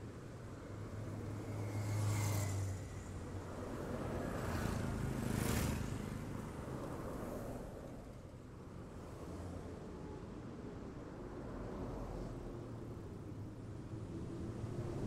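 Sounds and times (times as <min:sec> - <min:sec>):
vehicles passing by: 0:00.0 - 0:15.0.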